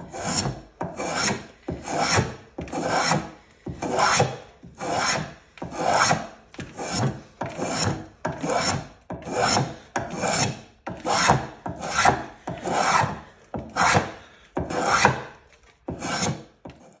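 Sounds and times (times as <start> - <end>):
spokeshave slicing wood: 0.1 - 17.0.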